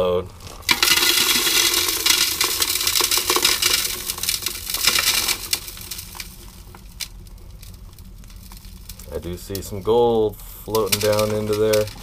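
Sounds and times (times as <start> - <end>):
gravel rattling in a shaken screen: 0.0 - 12.0.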